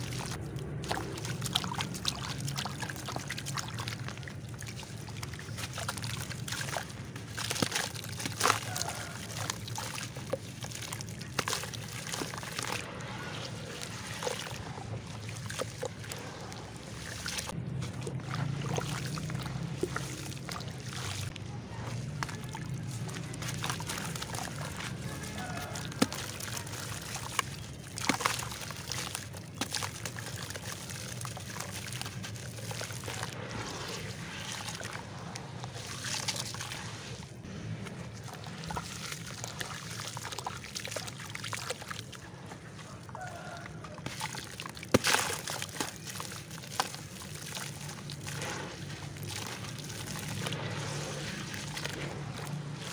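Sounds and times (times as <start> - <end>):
wet clay crumbling into water: 0.0 - 12.9, 13.8 - 37.1, 37.8 - 52.9
crackling grit: 0.0 - 40.2, 44.8 - 52.9
water sloshing and dripping: 0.0 - 52.9.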